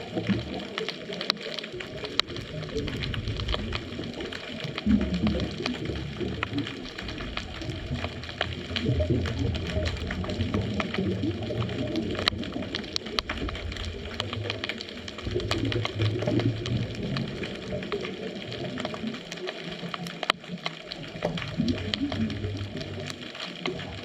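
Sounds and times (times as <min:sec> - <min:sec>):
sharp clicks and crackles: 0:00.0 - 0:24.0
underwater rumbling wash: 0:00.0 - 0:24.0.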